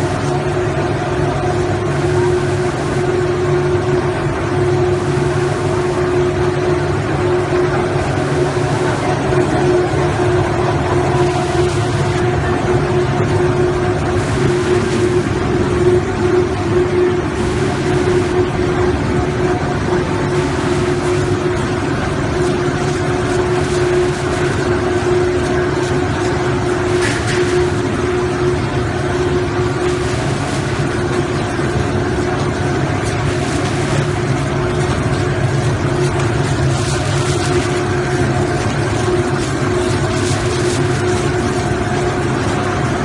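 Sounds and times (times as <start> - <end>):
machinery drone: 0.0 - 43.0.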